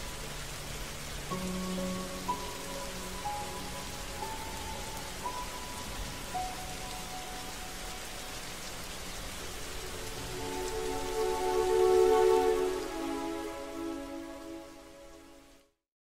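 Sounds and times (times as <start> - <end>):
soft music chords: 0.0 - 15.6
steady rain falling: 0.0 - 15.8.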